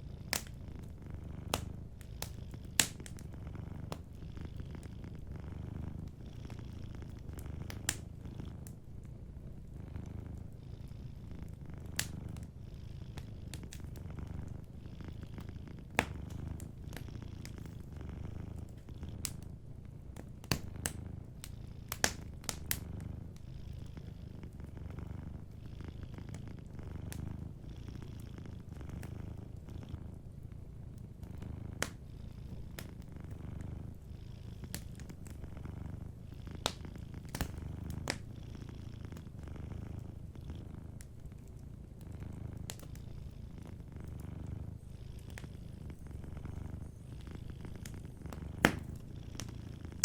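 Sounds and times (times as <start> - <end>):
wood fire crackling: 0.0 - 10.6, 11.4 - 23.4, 24.2 - 50.0
cat purring: 0.0 - 50.0.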